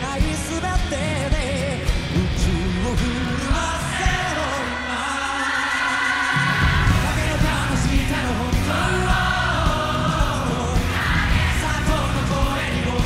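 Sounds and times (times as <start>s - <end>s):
live rock band: 0.0s - 13.0s
man singing lead vocal: 0.0s - 13.0s
chorus of young voices: 1.8s - 13.0s.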